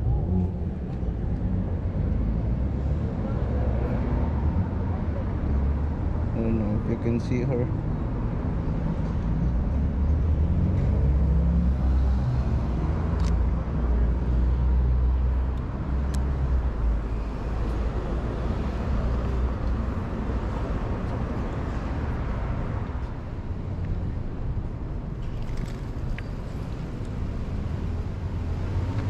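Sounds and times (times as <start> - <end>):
street traffic engine rumble: 0.0 - 29.0.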